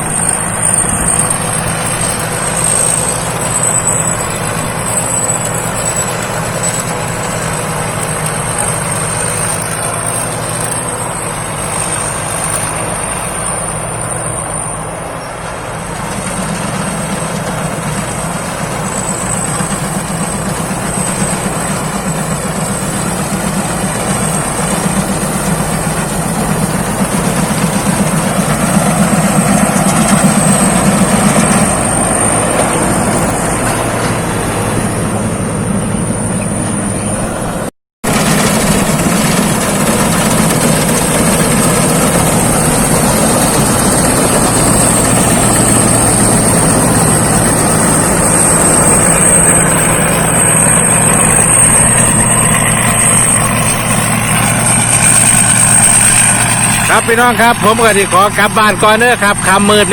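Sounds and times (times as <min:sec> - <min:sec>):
combine harvester running: 0:00.0 - 0:59.9
high whine: 0:00.0 - 0:59.9.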